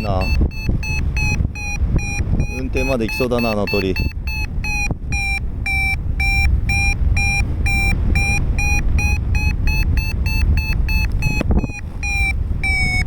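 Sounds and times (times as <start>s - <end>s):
variometer short high beeps: 0.0s - 13.0s
wind on microphone: 0.0s - 13.0s.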